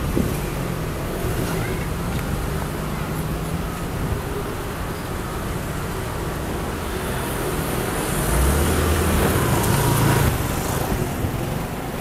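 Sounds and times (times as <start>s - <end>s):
cars and scooters driving past: 0.0s - 12.0s.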